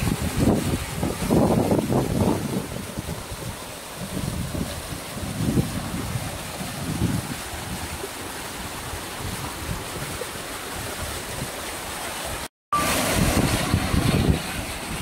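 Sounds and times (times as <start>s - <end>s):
wind buffeting microphone: 0.0s - 11.6s, 12.8s - 15.0s
mountain stream rushing: 0.0s - 15.0s
small waterfall splashing: 0.0s - 15.0s.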